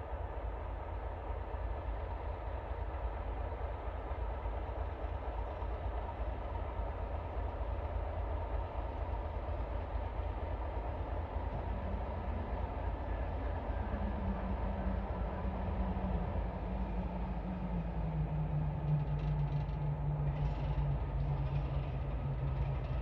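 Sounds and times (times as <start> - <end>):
diesel locomotive engine droning: 0.0 - 23.0.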